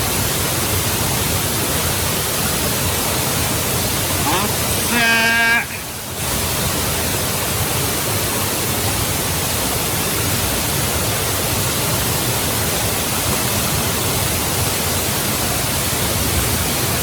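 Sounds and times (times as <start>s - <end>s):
waterfall rushing: 2.0s - 17.0s.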